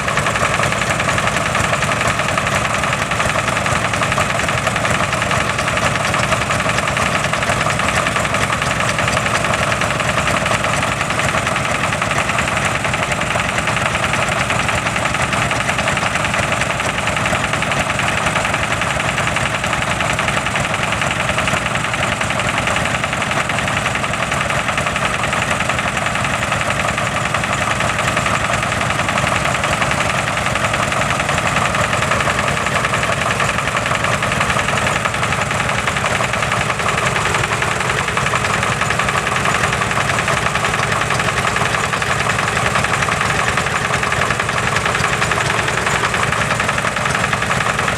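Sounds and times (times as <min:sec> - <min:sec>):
diesel engines idling: 0:00.0 - 0:47.9.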